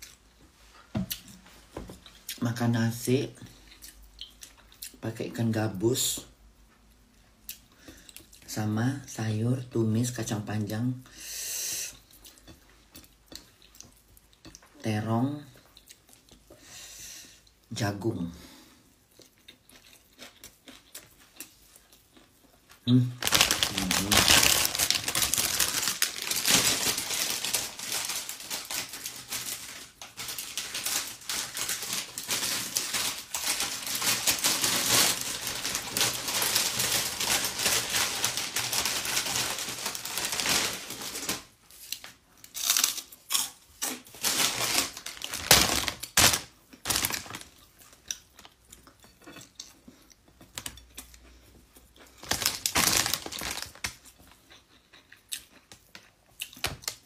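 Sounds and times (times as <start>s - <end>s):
crackling eating noises: 0.0s - 0.5s, 2.0s - 6.1s, 11.5s - 17.8s, 18.7s - 57.0s.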